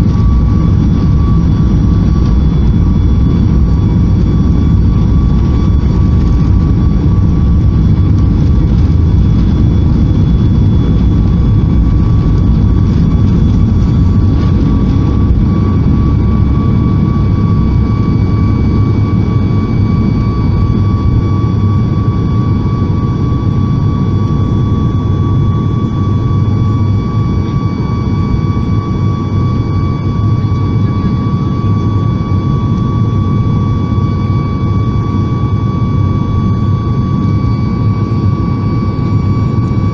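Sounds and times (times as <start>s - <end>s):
airplane cabin rumble: 0.0s - 39.9s
jet engine whine: 0.0s - 39.9s.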